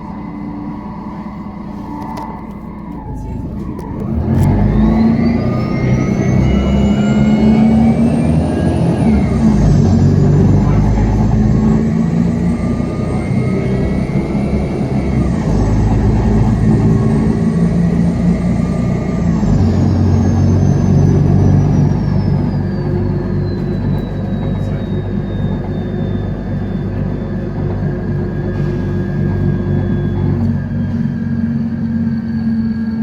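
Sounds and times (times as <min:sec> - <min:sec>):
bus engine running: 0:00.0 - 0:33.0
high whine falling in pitch: 0:00.0 - 0:33.0.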